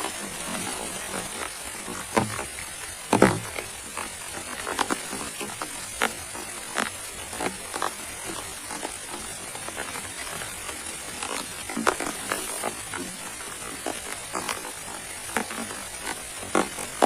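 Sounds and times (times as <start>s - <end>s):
raindrops tapping close by: 0.0s - 17.0s
steady rain hiss: 0.0s - 17.0s.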